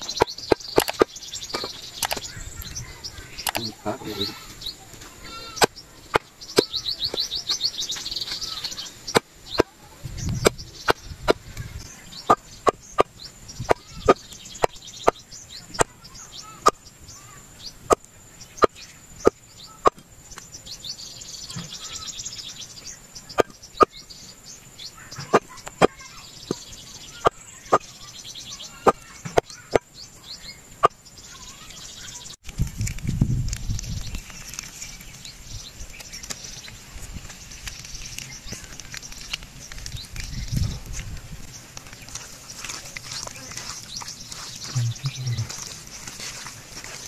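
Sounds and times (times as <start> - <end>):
faint chirping: 0.0 - 32.4, 33.7 - 47.0.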